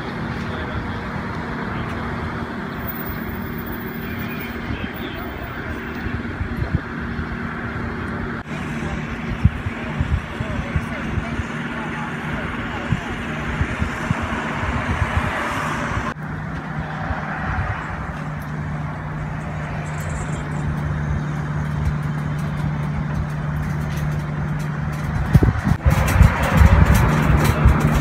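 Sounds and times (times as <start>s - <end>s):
engine humming steadily: 0.0s - 28.0s
outdoor mechanical noise: 0.0s - 28.0s.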